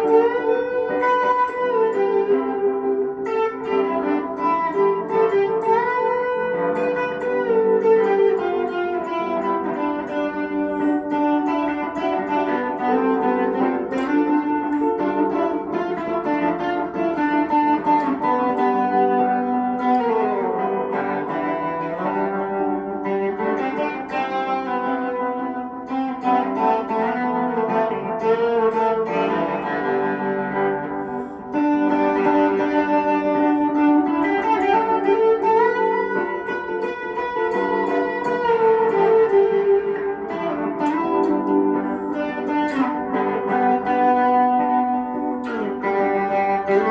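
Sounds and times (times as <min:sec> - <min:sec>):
electric guitar melody: 0:00.0 - 0:46.9.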